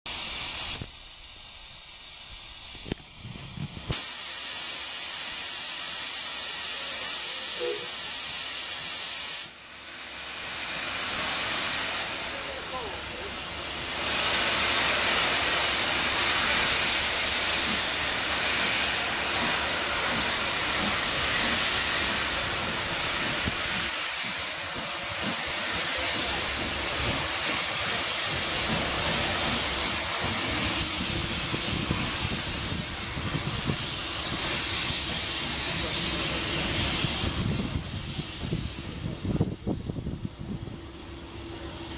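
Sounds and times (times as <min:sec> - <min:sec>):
steam locomotive hissing steam: 0:00.1 - 0:41.9.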